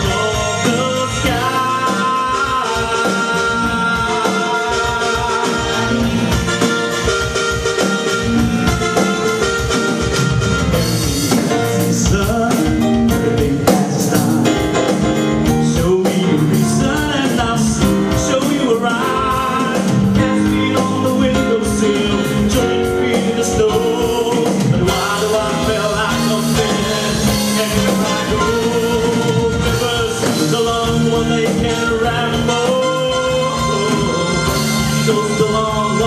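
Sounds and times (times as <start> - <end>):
person singing: 0.0 - 7.4, 10.6 - 36.0
live rock band playing: 0.0 - 36.0.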